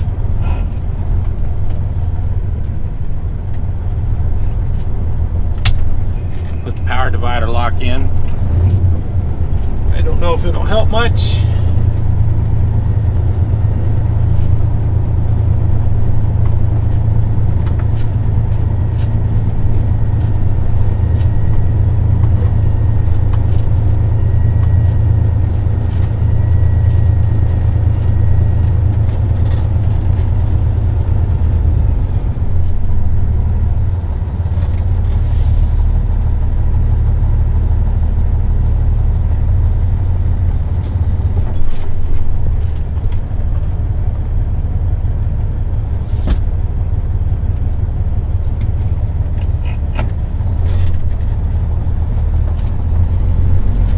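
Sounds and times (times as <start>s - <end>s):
truck diesel engine rumbling: 0.0s - 53.9s.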